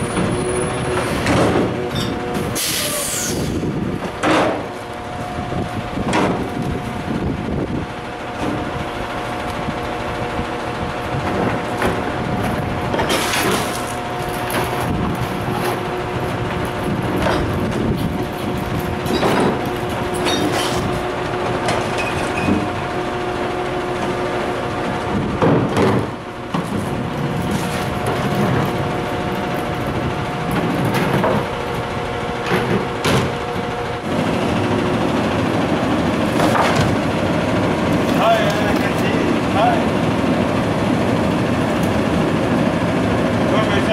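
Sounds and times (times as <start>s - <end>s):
garbage truck idling: 0.0s - 43.9s.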